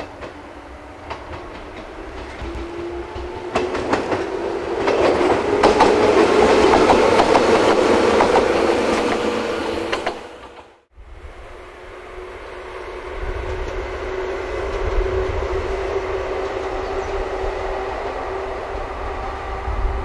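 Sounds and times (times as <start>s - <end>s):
train motor whine: 0.2s - 20.0s.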